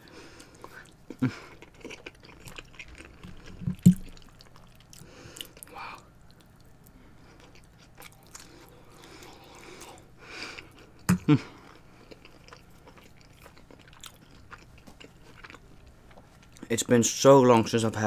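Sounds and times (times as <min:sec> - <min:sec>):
chewing with wet mouth clicks: 0:00.4 - 0:16.7.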